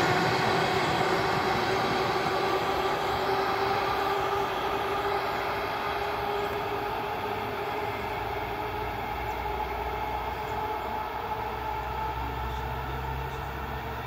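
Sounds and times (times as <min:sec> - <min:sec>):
electric train hum: 0:00.0 - 0:14.0
wheels rumbling on rails: 0:00.0 - 0:14.0.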